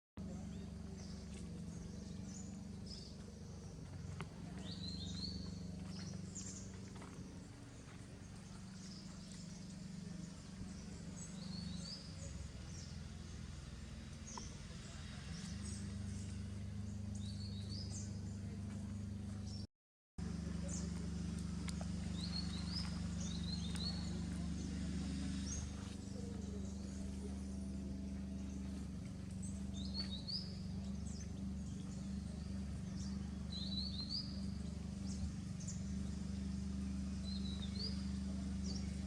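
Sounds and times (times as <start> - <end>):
low outdoor background rumble: 0.2 - 39.0
small birds chirping: 0.2 - 39.0.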